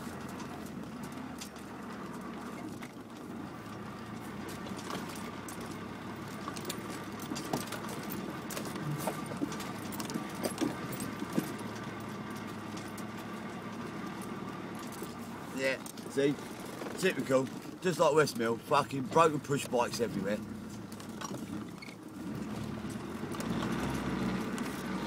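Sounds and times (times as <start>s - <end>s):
car engine running: 0.0s - 25.0s
rattles and knocks from car body: 0.0s - 25.0s.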